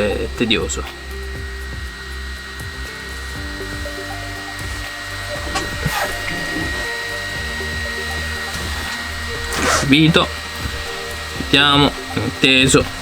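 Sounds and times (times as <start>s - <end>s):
electric whir with hum: 0.0s - 13.0s
soft background music: 0.0s - 13.0s.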